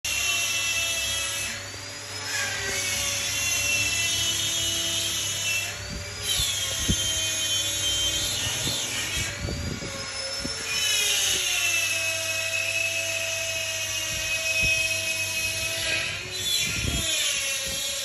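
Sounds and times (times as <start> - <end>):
rotary carving tool whining: 0.1 - 18.0.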